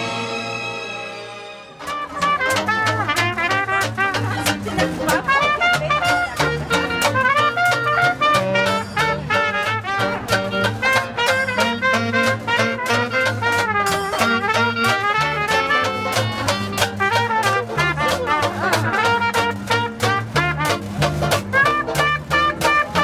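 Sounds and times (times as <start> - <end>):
upbeat swing music with brass: 0.0 - 23.0.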